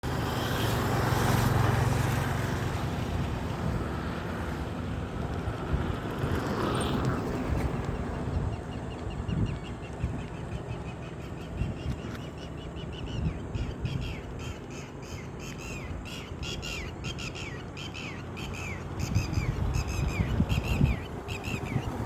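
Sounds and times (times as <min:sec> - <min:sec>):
wind noise on microphone: 0:00.1 - 0:14.6, 0:18.8 - 0:22.0.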